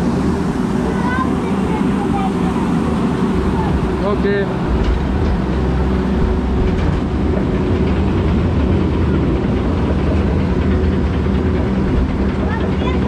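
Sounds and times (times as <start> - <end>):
conveyor mechanical rumble and hum: 0.0 - 13.0.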